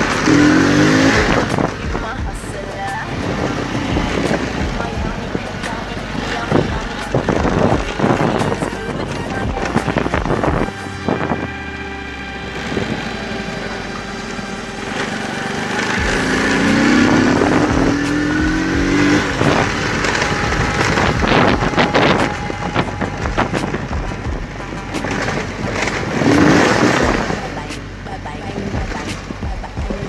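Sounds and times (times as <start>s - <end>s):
motorcycle engine revving up: 0.0s - 30.0s.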